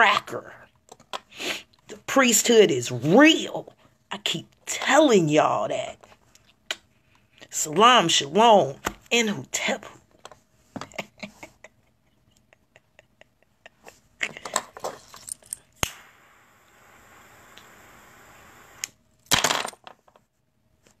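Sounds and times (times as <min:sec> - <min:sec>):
faint steady hiss: 0:00.4 - 0:19.3.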